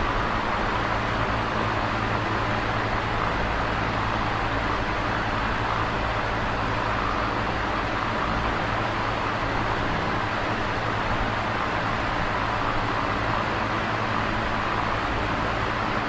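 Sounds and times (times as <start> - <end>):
electric fan rushing air: 0.0 - 16.0.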